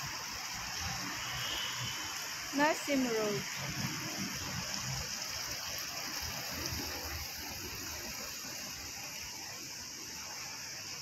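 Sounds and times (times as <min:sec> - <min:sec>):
constant high hiss: 0:00.0 - 0:11.0.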